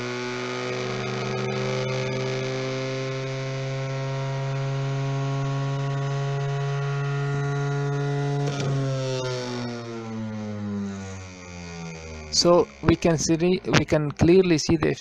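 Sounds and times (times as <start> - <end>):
motor driven rotor humming and whining: 0.0 - 13.8.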